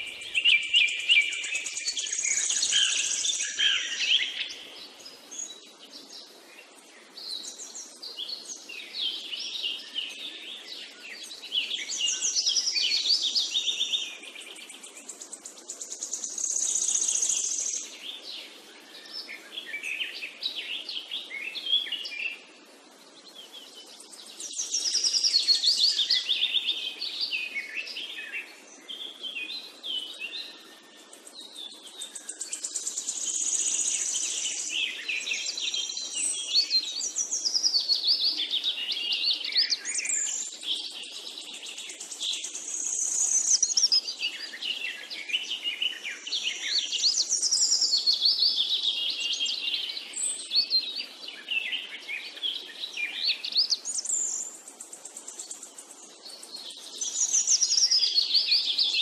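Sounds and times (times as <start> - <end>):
birds singing: 0.0 - 59.0.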